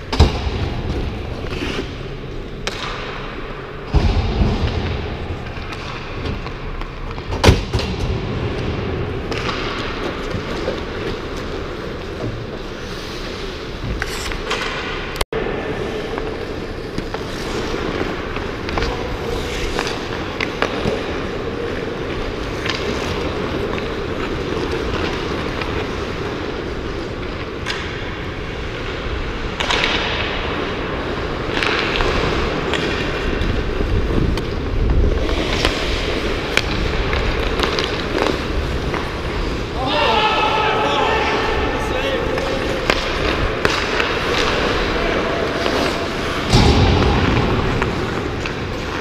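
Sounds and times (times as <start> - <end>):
skates scraping on ice: 0.0 - 7.6, 8.5 - 49.0
hockey sticks and puck clacking: 0.0 - 49.0.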